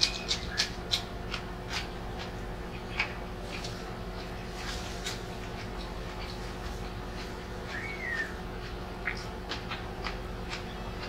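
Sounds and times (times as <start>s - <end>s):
chewing crisp cucumber: 0.0s - 11.0s
low steady hum: 0.0s - 11.0s.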